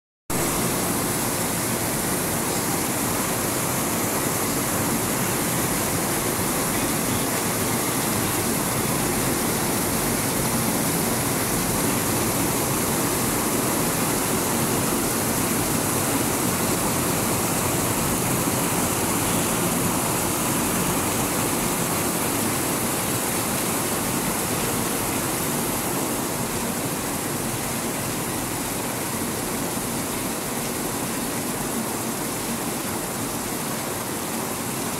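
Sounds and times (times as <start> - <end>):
heavy rain pouring: 0.3 - 34.9.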